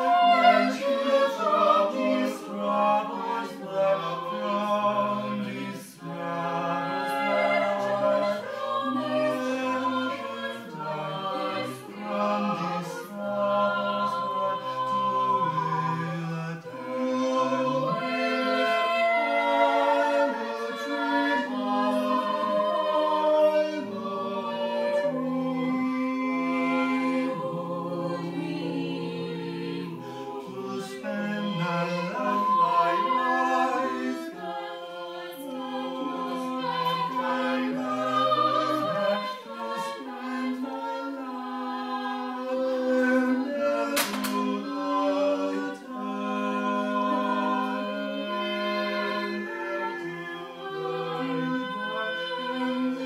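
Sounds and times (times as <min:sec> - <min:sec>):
vocal ensemble singing a cappella: 0:00.0 - 0:53.0.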